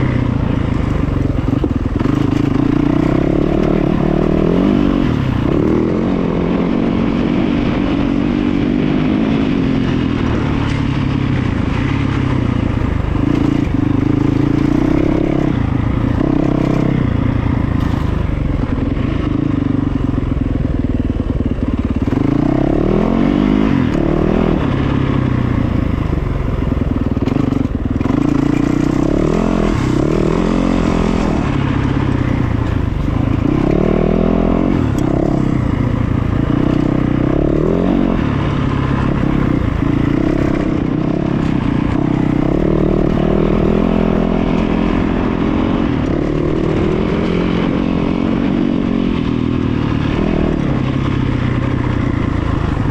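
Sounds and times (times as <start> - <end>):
engine revving: 0.0 - 20.4, 21.7 - 52.9.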